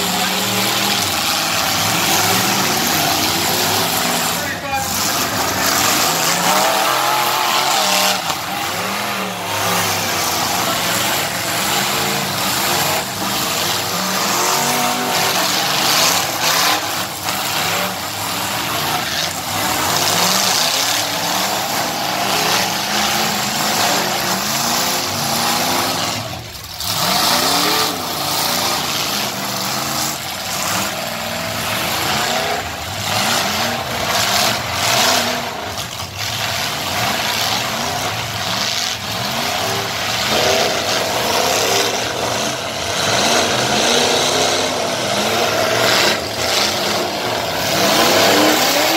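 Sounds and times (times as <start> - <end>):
engines revving hard: 0.0 - 48.9.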